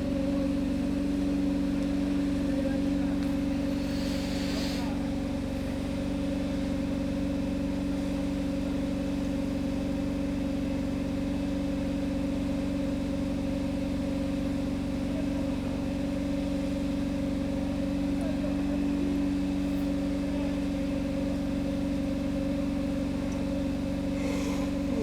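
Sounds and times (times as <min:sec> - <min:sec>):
engine idling hum: 0:00.0 - 0:25.0.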